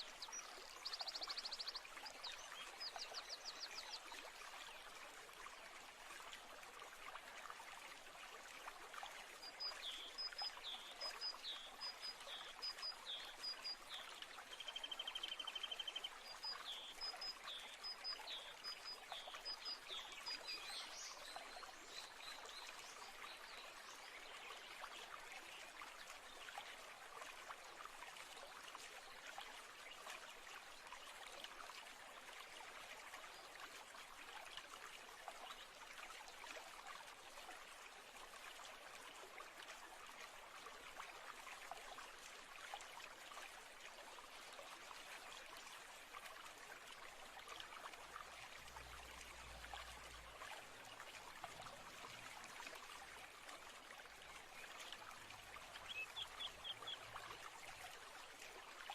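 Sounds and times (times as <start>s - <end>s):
stream trickling: 0.0s - 58.9s.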